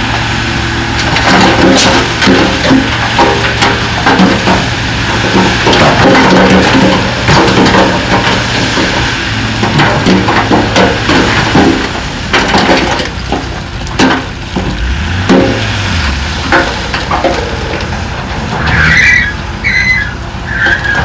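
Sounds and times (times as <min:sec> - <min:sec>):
diesel engine hum: 0:00.0 - 0:21.0.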